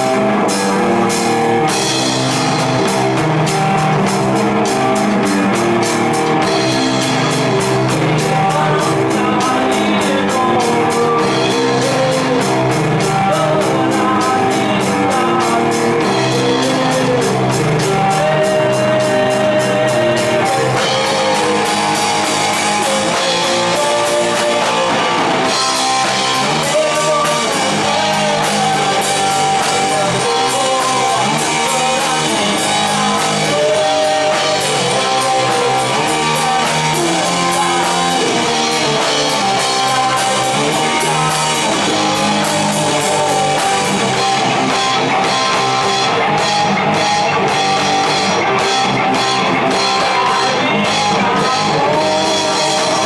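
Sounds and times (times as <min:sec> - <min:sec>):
rock band playing: 0:00.0 - 0:53.0.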